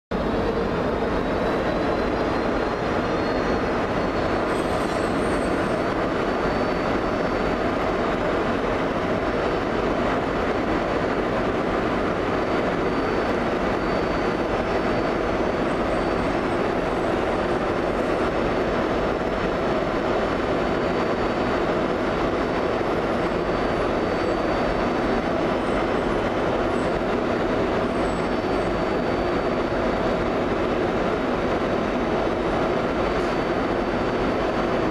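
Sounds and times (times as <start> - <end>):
train rail rumble: 0.1 - 34.9
faint high whine: 0.2 - 34.9.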